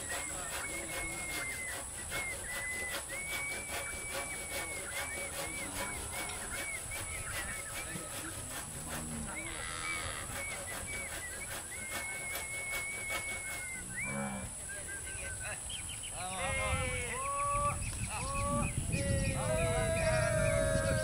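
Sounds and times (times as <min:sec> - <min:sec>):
high chirping calls: 0:00.0 - 0:08.2, 0:09.3 - 0:21.0.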